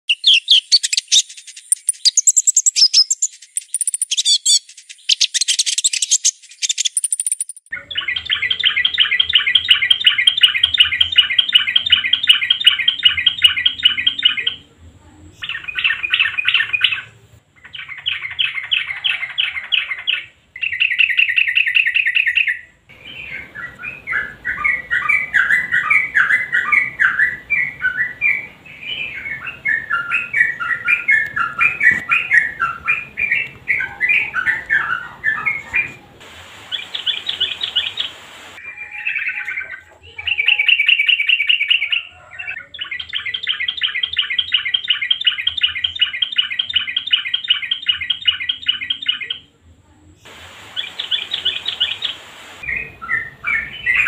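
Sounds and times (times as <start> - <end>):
bulbul song: 0.1 - 49.6, 50.2 - 54.0.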